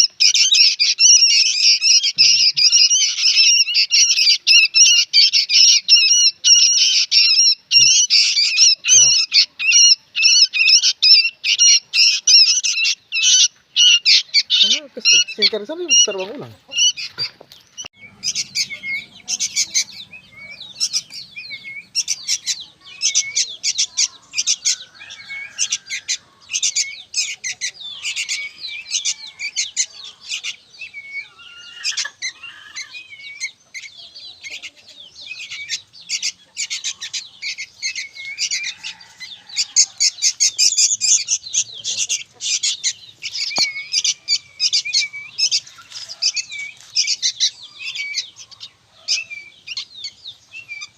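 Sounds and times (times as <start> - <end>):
bulbul chirping: 0.0 - 50.9.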